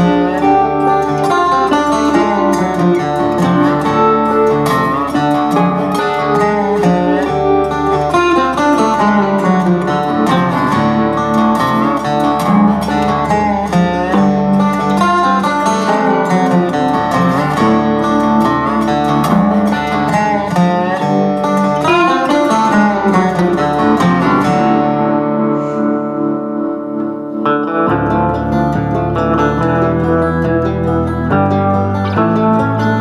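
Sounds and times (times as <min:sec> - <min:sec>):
acoustic guitar music: 0:00.0 - 0:33.0.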